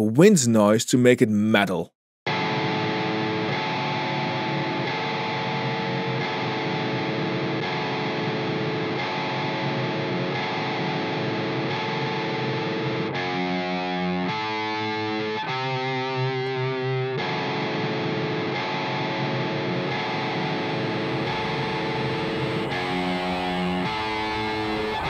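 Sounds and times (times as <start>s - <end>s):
distorted electric guitar chords: 2.3s - 25.0s.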